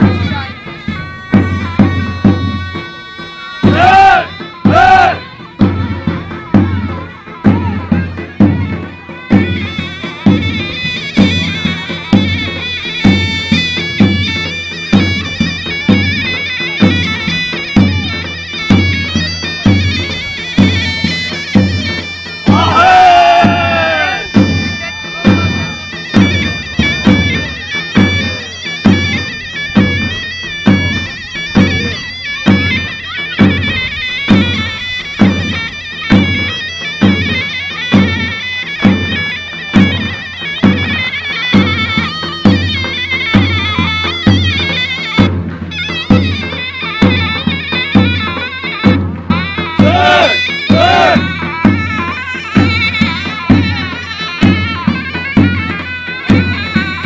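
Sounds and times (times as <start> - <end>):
big drum beating: 0.0 - 57.0
shrill double-reed pipe melody: 0.0 - 57.0.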